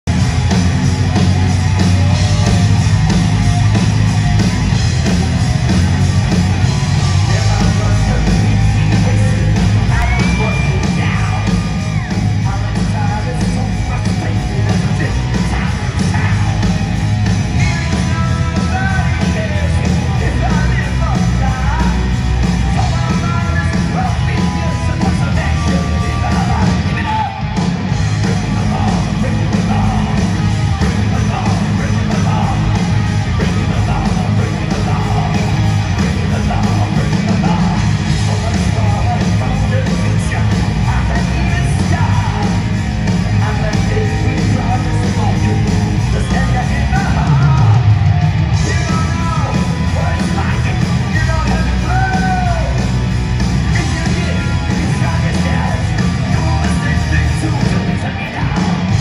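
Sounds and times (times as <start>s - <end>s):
heavy metal band playing live: 0.0s - 59.0s
man singing: 6.8s - 16.8s, 17.5s - 47.9s, 48.6s - 52.9s, 53.6s - 59.0s.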